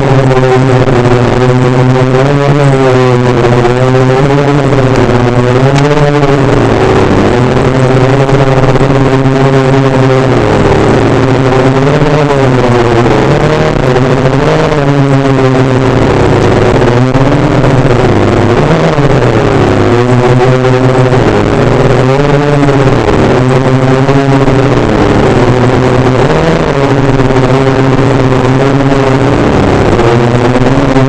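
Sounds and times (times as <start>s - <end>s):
quadcopter motors buzzing: 0.0s - 31.0s.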